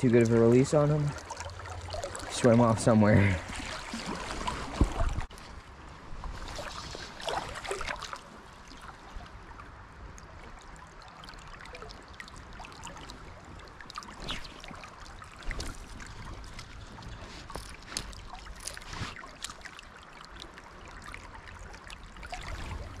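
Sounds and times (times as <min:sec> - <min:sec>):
creek water rippling over rocks: 0:00.0 - 0:23.0.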